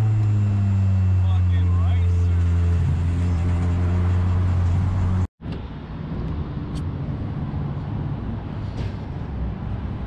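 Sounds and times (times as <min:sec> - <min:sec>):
car engine and road noise: 0:00.0 - 0:10.0
outdoor traffic rumble: 0:00.0 - 0:10.0.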